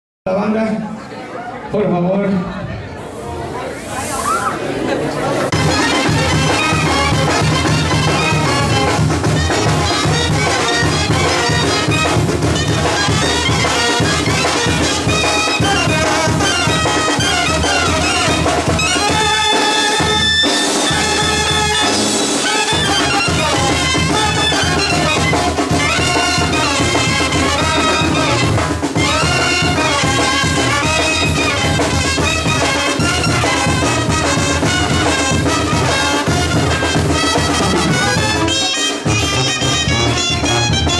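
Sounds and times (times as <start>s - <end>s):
brass band playing: 2.9s - 40.9s.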